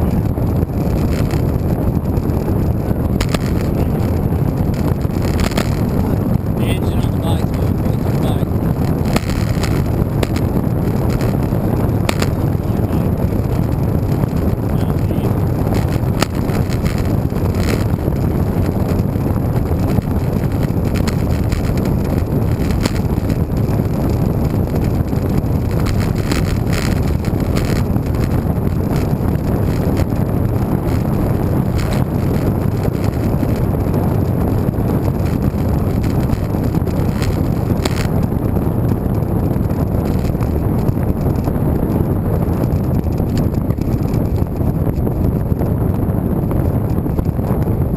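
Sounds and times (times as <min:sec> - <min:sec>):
wind on microphone: 0:00.0 - 0:47.9.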